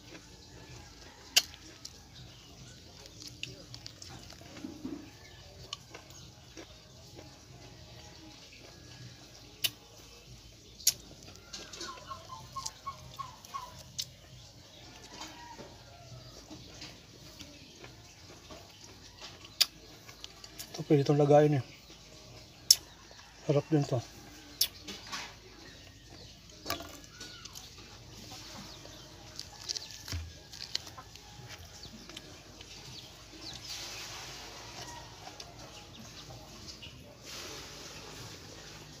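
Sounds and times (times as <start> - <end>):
chicken clucking: 0.0 - 39.0.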